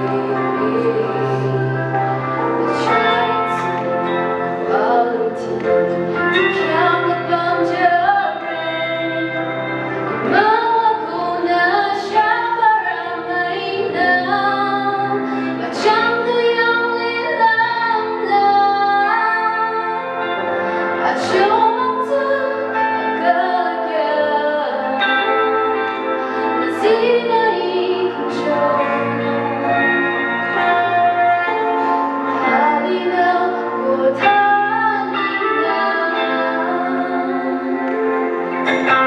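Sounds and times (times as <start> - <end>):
woman singing into a microphone: 0.0 - 39.0.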